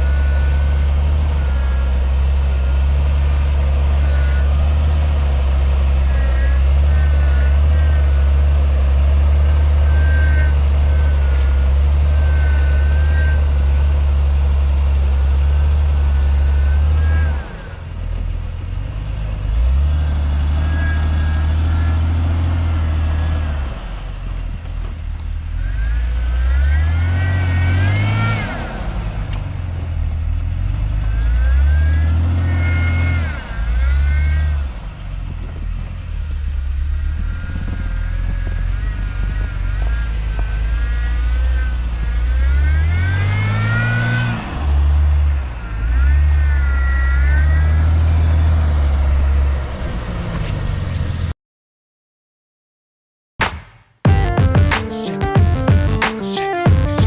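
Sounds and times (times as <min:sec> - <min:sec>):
engine whine: 0:00.0 - 0:51.3
off-road vehicle engine revving: 0:00.0 - 0:51.3.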